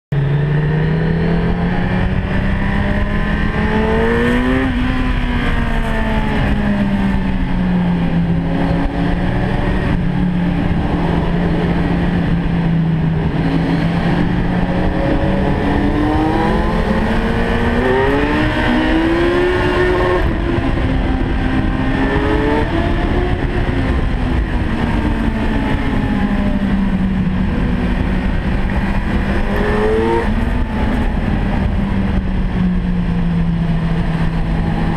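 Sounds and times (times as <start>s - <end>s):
car engine revving in tunnel: 0.2s - 34.9s.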